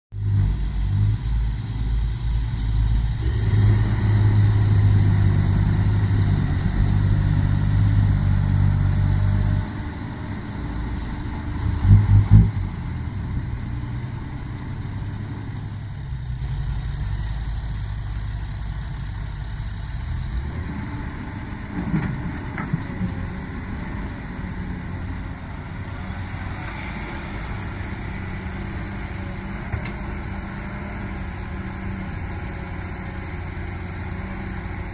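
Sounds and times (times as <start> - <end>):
excavator diesel engine digging: 0.1 - 34.9.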